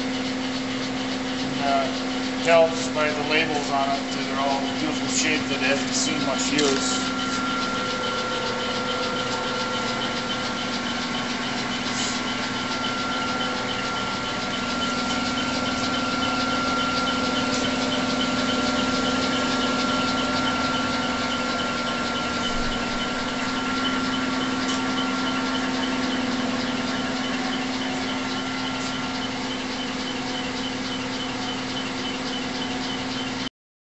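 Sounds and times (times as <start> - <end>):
lathe humming: 0.0 - 33.4
thin high whine: 1.4 - 33.0.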